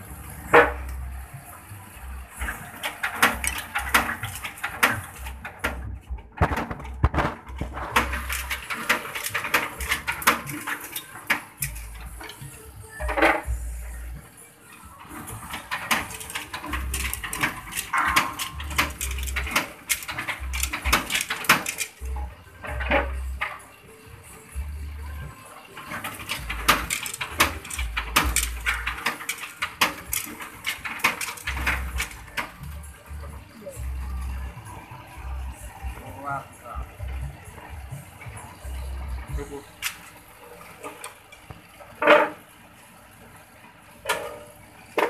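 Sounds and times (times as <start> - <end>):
bamboo skewers clattering in machine: 0.0 - 13.8, 14.9 - 45.0.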